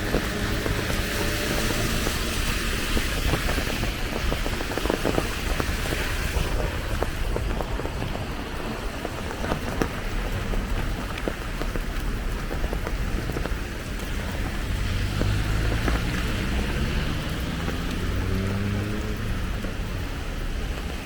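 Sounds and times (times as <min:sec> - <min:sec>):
raindrops ticking: 0:00.0 - 0:21.0
steady rain: 0:00.0 - 0:21.0
traffic on wet road: 0:00.0 - 0:21.0.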